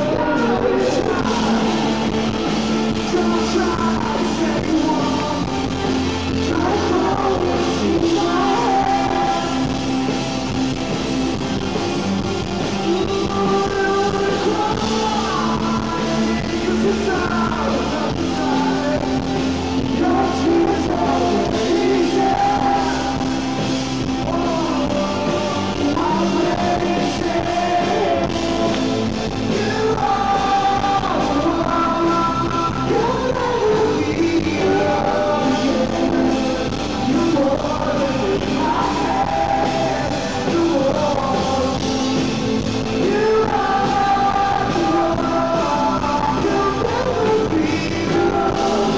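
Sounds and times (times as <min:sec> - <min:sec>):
man and woman singing: 0:00.0 - 0:10.1, 0:12.7 - 0:48.9
drums: 0:00.0 - 0:48.9
electric guitar: 0:00.0 - 0:48.9.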